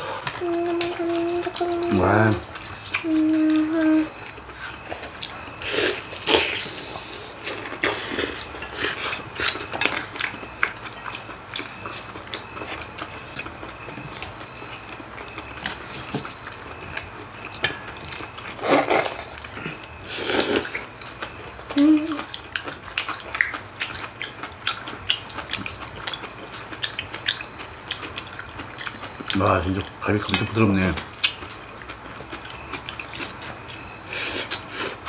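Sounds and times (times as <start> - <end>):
wet chewing and gnawing: 0.0 - 35.0.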